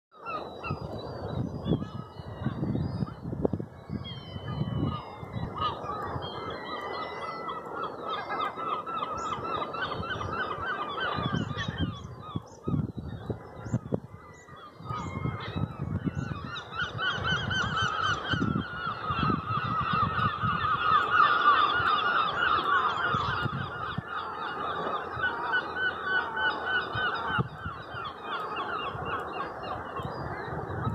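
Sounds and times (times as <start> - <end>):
seabirds calling: 0.1 - 30.9
wind buffeting microphone: 0.2 - 30.9.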